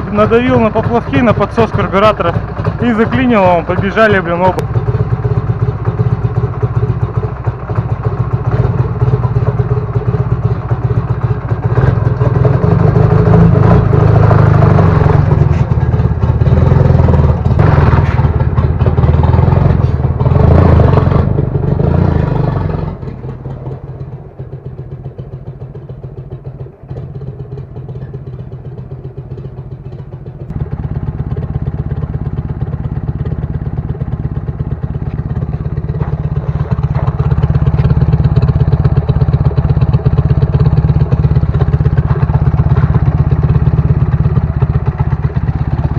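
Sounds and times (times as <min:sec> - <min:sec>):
motorcycle engine revving and idling: 0:00.0 - 0:45.9.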